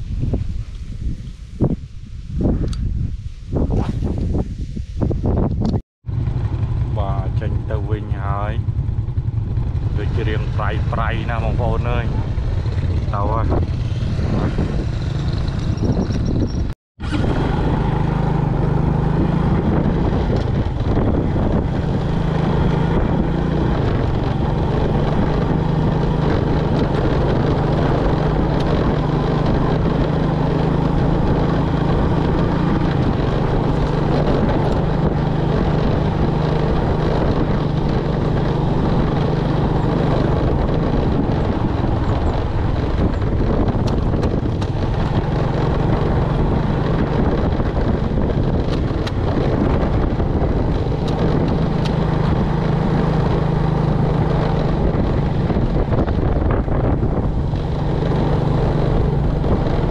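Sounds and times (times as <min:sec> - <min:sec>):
wind noise: 0:00.0 - 0:59.9
vehicle engine running: 0:06.0 - 0:59.9.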